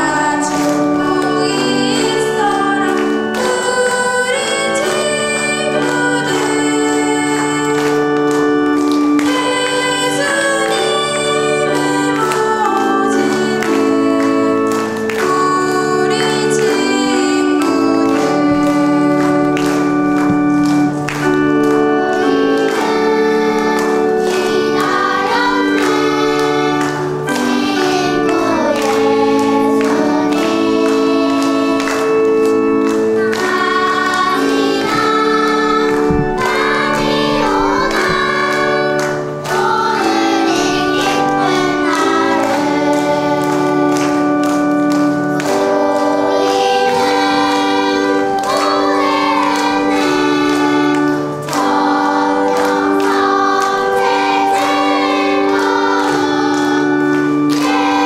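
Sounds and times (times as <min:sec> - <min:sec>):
children singing a hymn: 0:00.0 - 0:58.0
instrumental held chords: 0:00.0 - 0:58.0.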